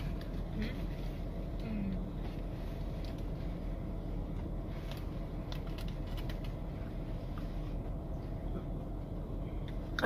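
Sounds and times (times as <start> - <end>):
car interior hum: 0.0 - 10.0.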